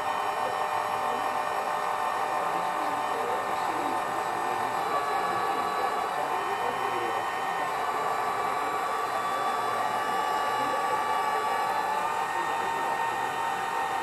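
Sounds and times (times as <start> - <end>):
hydraulic pump whining: 0.0 - 14.0.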